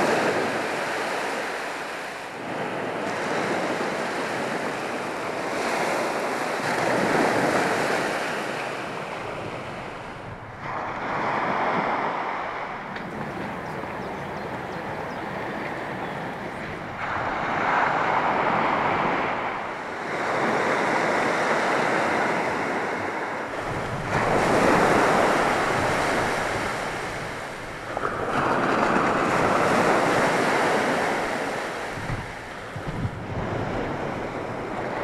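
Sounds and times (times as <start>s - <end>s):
surf breaking on a beach: 0.0s - 35.0s
wind: 0.0s - 35.0s.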